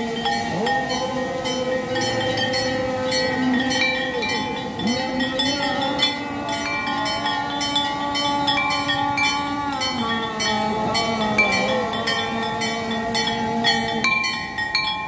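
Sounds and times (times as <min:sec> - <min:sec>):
many bells ringing: 0:00.0 - 0:15.0.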